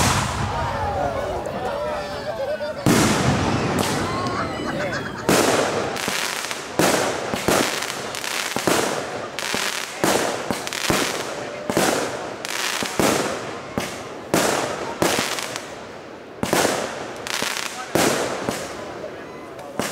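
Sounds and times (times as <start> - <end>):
fireworks bangs: 0.0 - 1.5, 2.7 - 19.9.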